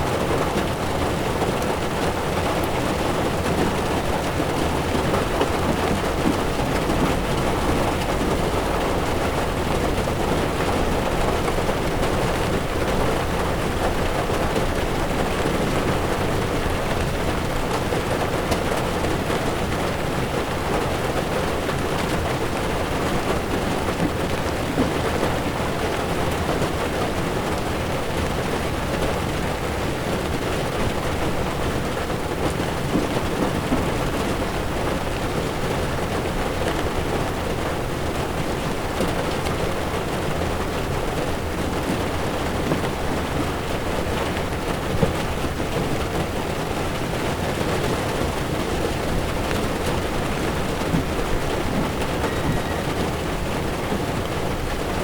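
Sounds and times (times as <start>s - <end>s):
heavy rain on car windshield: 0.0s - 55.0s.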